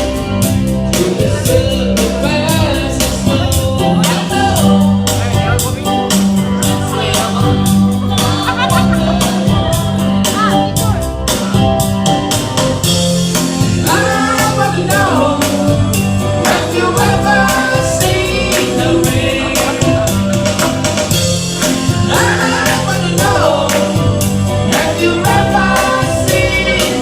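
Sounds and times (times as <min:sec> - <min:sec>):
pop-rock band playing: 0:00.0 - 0:27.0
people singing: 0:00.9 - 0:10.7, 0:13.6 - 0:27.0.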